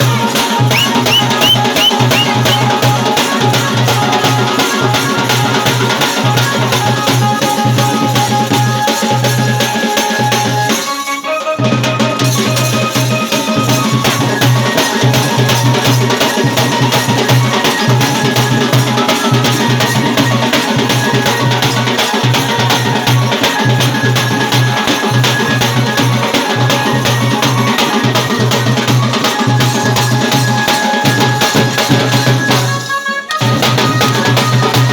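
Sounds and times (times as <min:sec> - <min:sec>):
fast steady drumming: 0:00.0 - 0:34.9
held melody line: 0:00.0 - 0:34.9.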